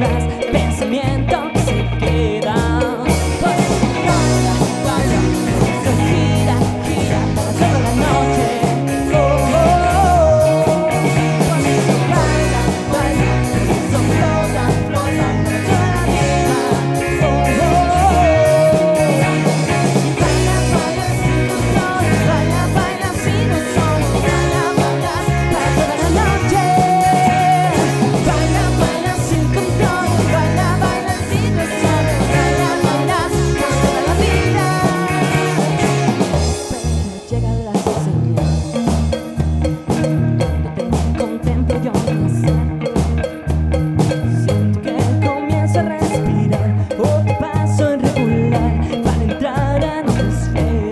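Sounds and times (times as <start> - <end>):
lead singer singing: 0.0 - 39.3, 40.1 - 43.5, 44.1 - 50.9
drums: 0.0 - 50.9
electric guitars: 0.0 - 50.9
keyboards: 0.0 - 50.9.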